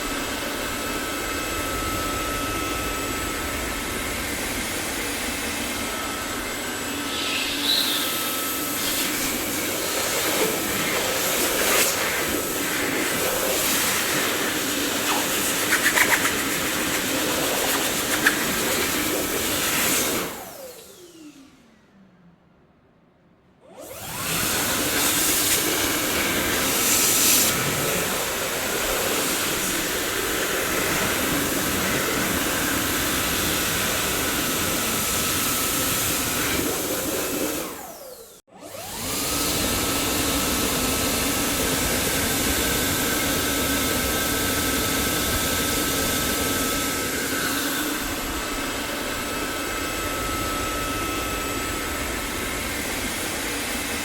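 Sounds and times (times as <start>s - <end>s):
vacuum cleaner motor whine: 0.0s - 22.2s, 23.6s - 54.0s.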